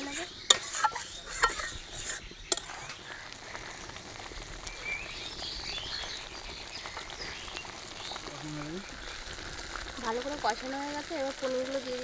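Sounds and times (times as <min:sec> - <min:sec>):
gravy bubbling and spluttering: 0:00.0 - 0:12.0.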